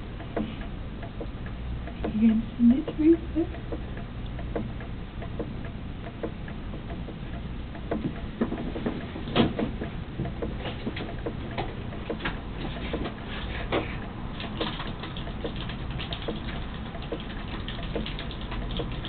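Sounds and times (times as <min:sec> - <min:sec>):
steady low hum: 0:00.0 - 0:19.0
clicks and taps: 0:00.2 - 0:19.0.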